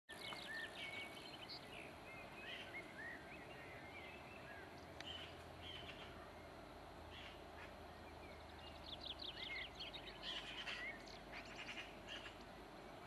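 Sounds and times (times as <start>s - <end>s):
outdoor background noise: 0.1s - 13.0s
small birds twittering: 0.1s - 13.0s.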